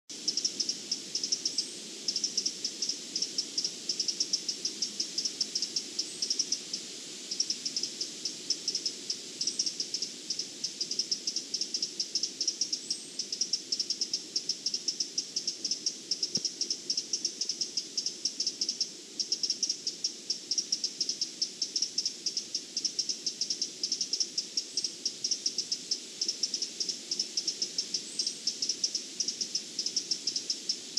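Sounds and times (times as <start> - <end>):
insect buzzy pulsing song: 0.1 - 30.9.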